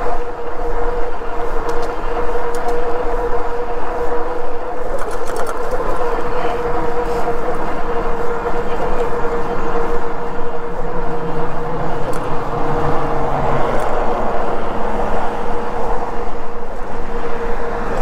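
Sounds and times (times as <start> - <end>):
electric bike motor whine: 0.0 - 18.0.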